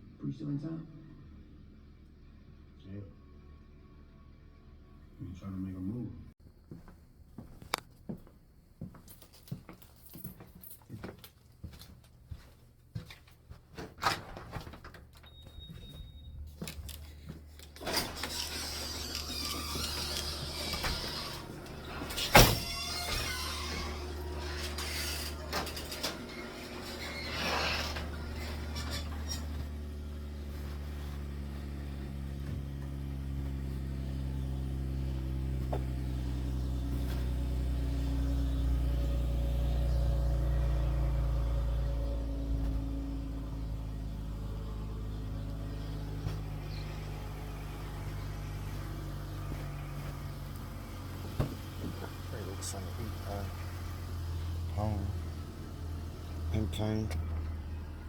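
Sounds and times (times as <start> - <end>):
motor vehicle droning: 0.0 - 6.3, 15.2 - 58.0.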